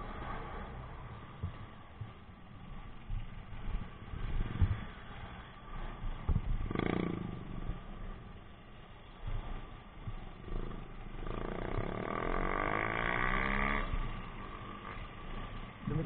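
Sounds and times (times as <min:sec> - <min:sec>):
motorcycle engine rumble: 0:00.0 - 0:16.0.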